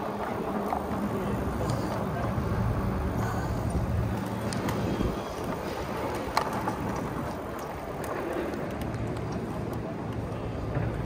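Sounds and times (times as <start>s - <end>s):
wind on microphone: 0.0s - 9.4s
e-bike rolling: 0.0s - 11.0s.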